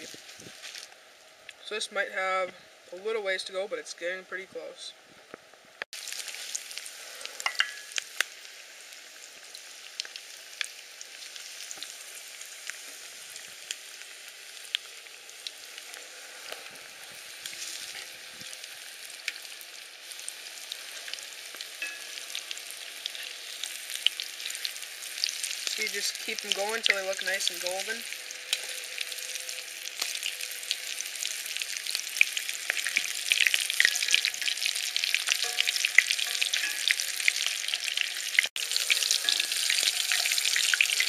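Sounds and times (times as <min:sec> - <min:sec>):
food frying in hot oil: 0:00.0 - 0:01.7, 0:05.4 - 0:41.0.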